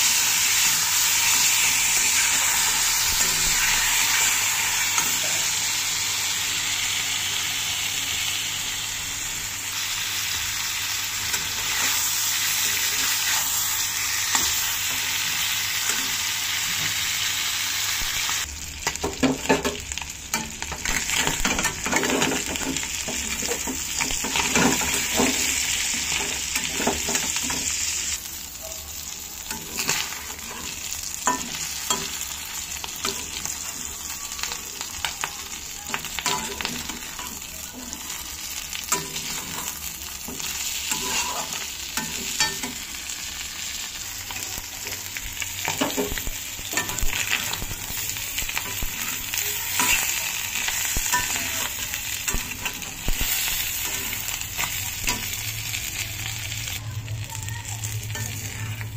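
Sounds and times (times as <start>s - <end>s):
fish sizzling in hot oil: 0.0s - 58.9s.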